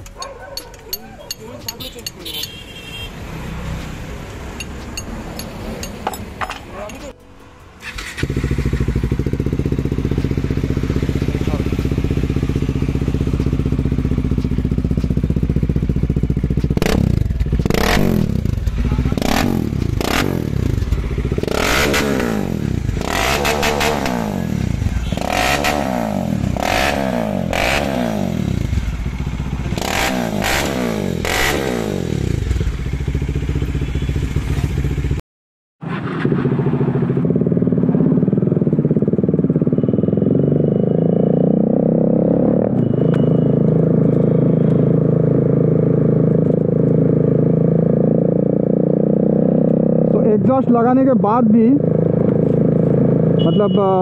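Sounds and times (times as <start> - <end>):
motorcycle engine idling and revving: 0.0 - 35.2, 35.8 - 54.0.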